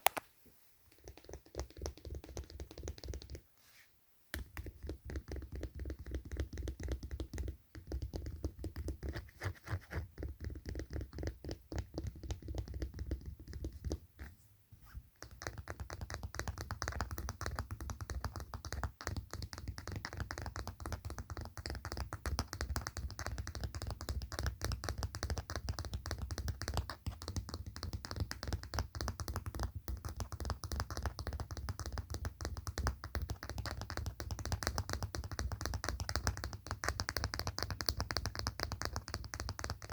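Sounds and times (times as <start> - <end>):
rapid finger tapping: 0.9 - 3.5, 4.3 - 14.3, 15.2 - 39.9.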